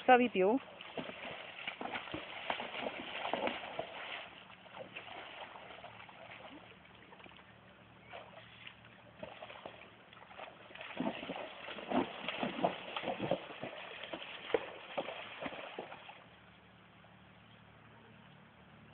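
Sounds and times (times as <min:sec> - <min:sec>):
horse splashing in shallow water: 0:00.0 - 0:16.8.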